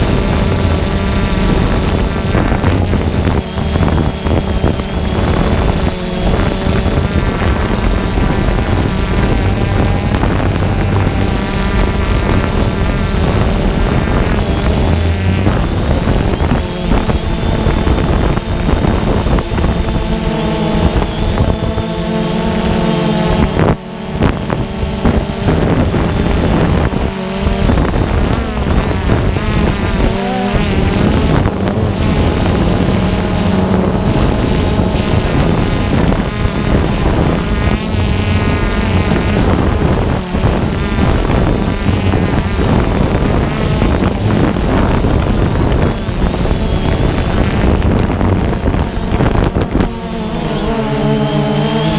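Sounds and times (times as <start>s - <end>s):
drone propellers whining: 0.0s - 51.9s
wind buffeting microphone: 0.0s - 51.9s.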